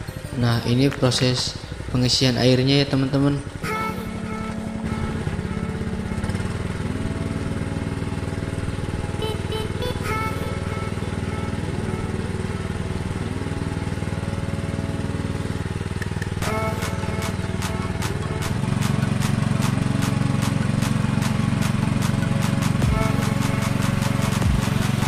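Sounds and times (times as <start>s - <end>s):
petrol water pump engine: 0.0s - 25.0s
slow melodic background music: 0.0s - 25.0s.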